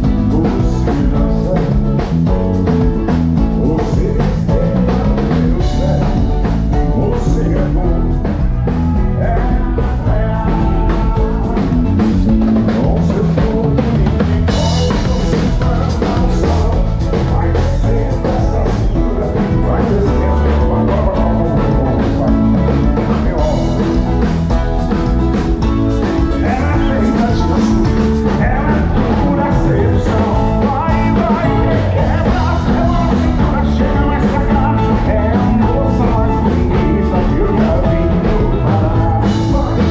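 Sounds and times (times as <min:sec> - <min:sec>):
acoustic guitar: 0:00.0 - 0:39.9
drum kit: 0:00.0 - 0:39.9
electric bass: 0:00.0 - 0:39.9
keyboard: 0:00.0 - 0:39.9
person singing: 0:00.0 - 0:39.9.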